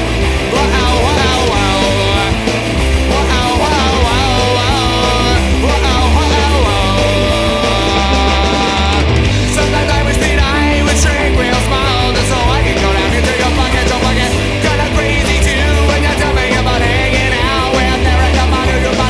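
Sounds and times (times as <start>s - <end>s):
rock song with singing: 0.0s - 19.0s.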